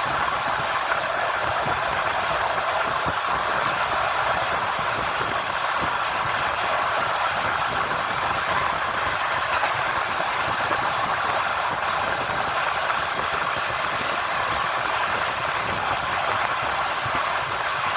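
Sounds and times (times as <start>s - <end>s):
train wheels on rail: 0.0s - 17.9s.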